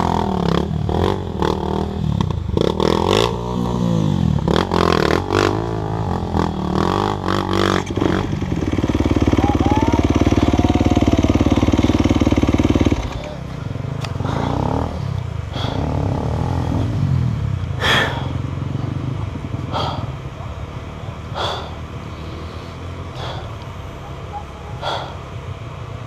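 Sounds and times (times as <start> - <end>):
dirt bike engine revving: 0.0 - 26.0
engine knocks and clatter: 0.0 - 26.0.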